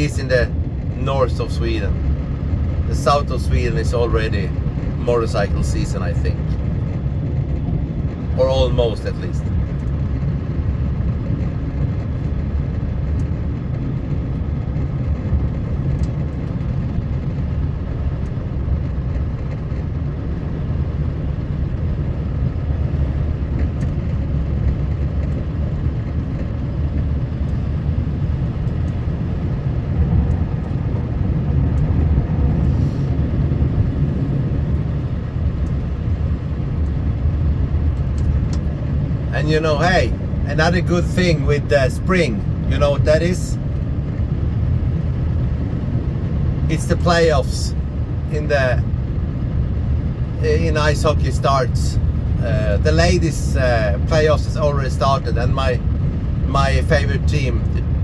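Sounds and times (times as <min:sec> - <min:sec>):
motor vehicle engine rumble: 0:00.0 - 0:58.0.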